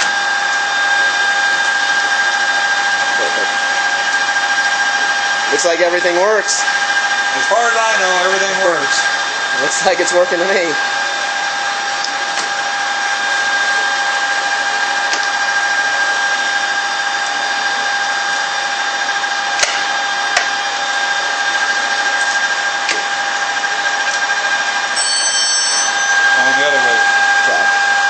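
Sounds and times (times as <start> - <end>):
lathe whining: 0.0 - 28.0.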